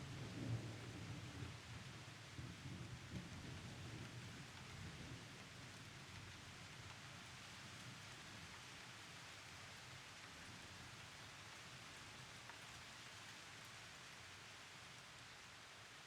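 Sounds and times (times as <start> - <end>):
rain hissing on surfaces: 0.1 - 16.0.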